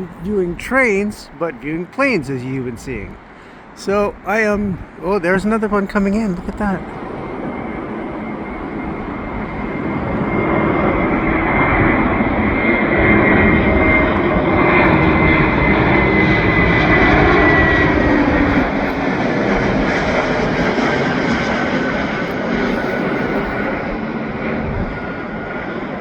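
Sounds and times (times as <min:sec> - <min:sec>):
airliner engine noise: 0:00.0 - 0:26.0
high engine whine: 0:00.0 - 0:26.0.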